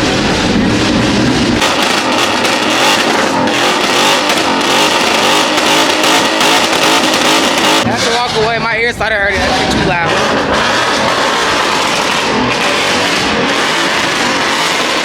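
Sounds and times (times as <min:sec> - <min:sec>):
loud harsh car exhaust: 0:00.0 - 0:15.0.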